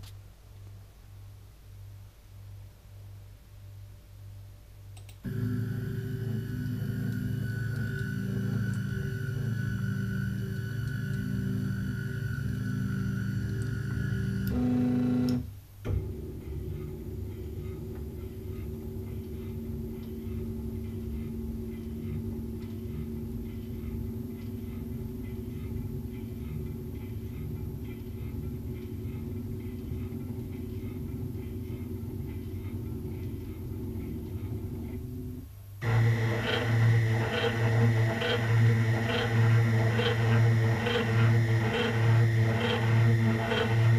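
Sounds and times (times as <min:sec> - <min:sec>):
milling machine humming and ticking: 0:05.0 - 0:43.9.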